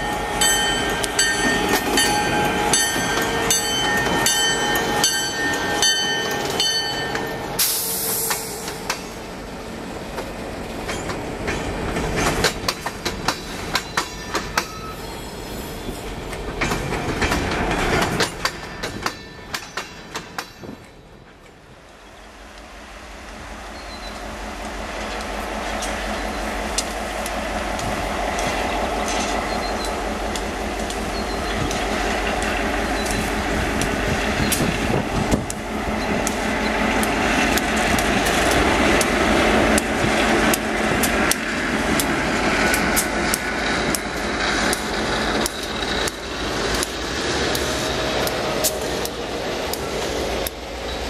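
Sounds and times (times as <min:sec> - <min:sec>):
train wheels clacking on track: 0:00.0 - 0:09.4, 0:10.0 - 0:15.1, 0:15.8 - 0:21.6, 0:23.8 - 0:51.0
diesel locomotive engine: 0:00.0 - 0:51.0.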